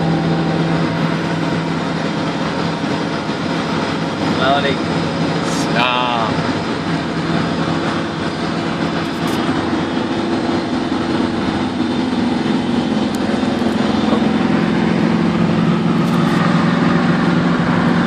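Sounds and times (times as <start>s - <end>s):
engine drone: 0.0s - 18.0s
road rumble: 0.0s - 18.0s.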